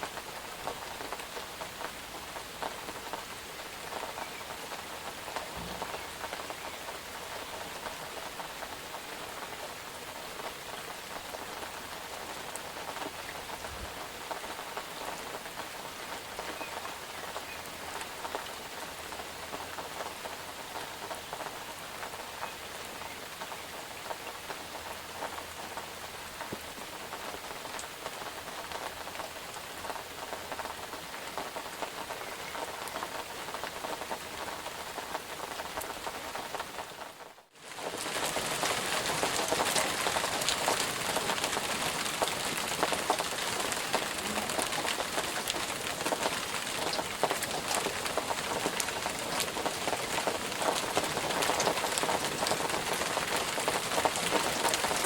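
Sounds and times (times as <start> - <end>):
raindrops hitting a surface: 0.0 - 55.0
steady rain falling: 0.0 - 55.0.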